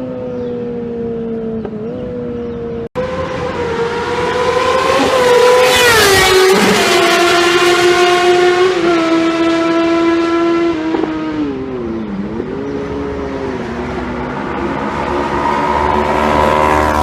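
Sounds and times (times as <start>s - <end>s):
superbike engine at high revs: 0.0s - 17.0s.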